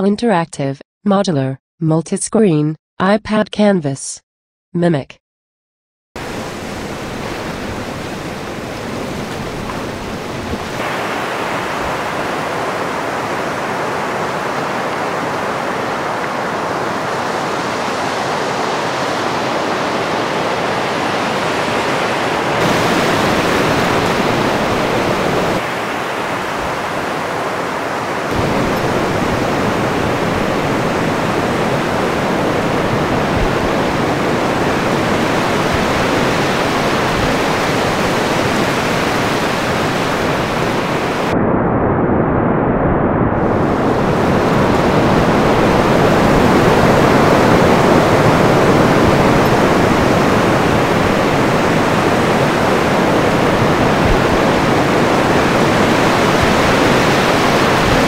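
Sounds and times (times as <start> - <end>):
surf washing over rocks: 6.2 - 41.3, 43.4 - 58.0.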